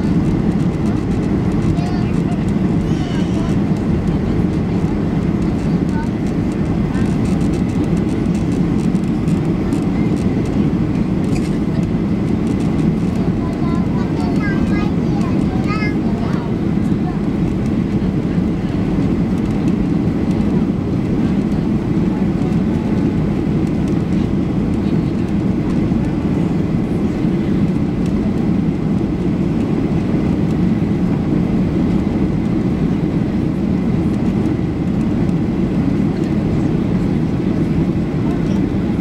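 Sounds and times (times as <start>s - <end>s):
jet engine drone in cabin: 0.0s - 39.0s
rushing airflow: 0.0s - 39.0s.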